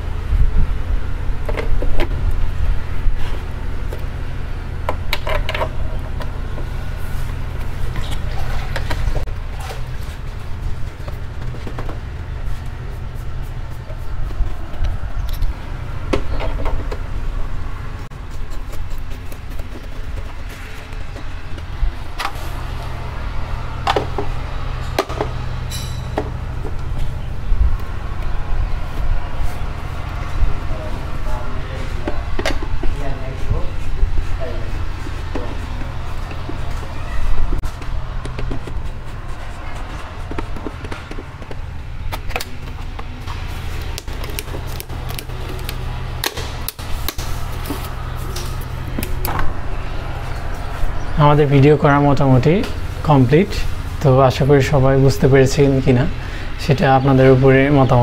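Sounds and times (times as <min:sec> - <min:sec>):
steady low rumble: 0:00.0 - 0:57.2
steady low hum: 0:00.0 - 0:58.0.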